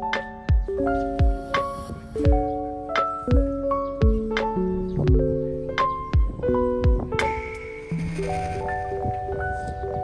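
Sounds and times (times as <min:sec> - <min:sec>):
held keyboard chords: 0:00.0 - 0:10.0.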